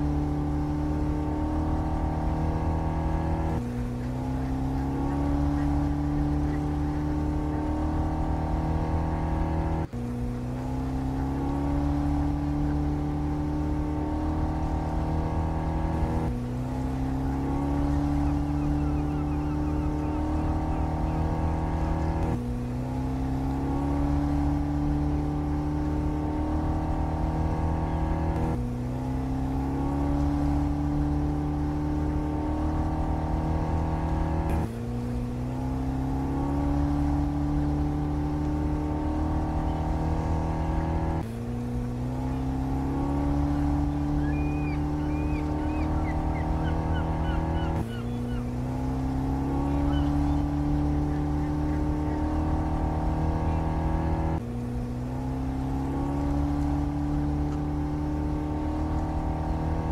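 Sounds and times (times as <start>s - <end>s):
boat engines drone: 0.0s - 59.9s.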